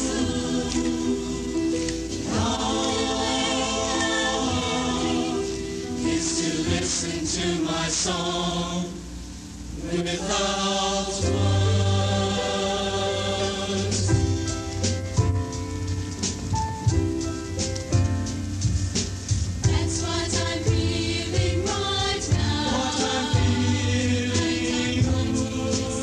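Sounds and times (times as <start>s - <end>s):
choir singing in harmony: 0.0s - 14.9s, 19.6s - 26.0s.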